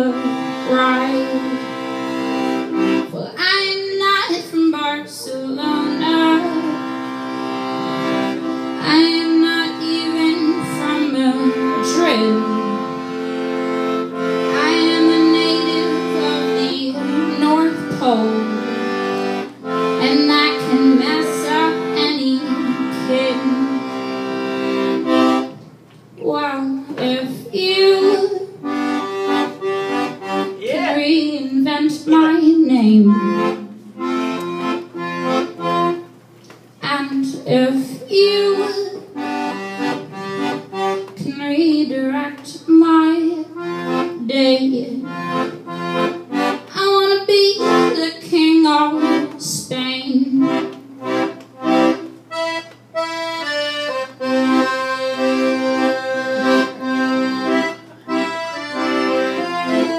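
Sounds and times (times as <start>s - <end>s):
piano accordion playing: 0.0s - 59.9s.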